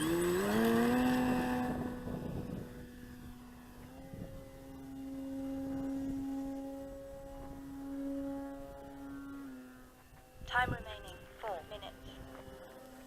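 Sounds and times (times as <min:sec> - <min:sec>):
model plane electric motor whine: 0:00.0 - 0:13.0.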